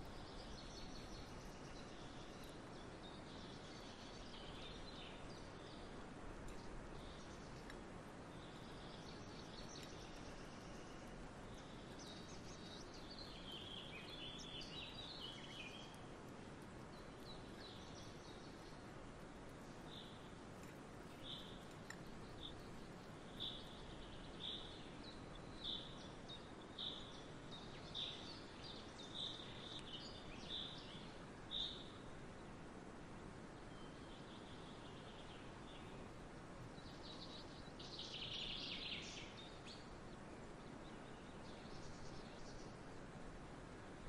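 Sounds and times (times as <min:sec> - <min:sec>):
bird chirping: 0:00.0 - 0:16.1, 0:16.8 - 0:32.0, 0:33.7 - 0:39.9
steady background noise: 0:00.0 - 0:44.0.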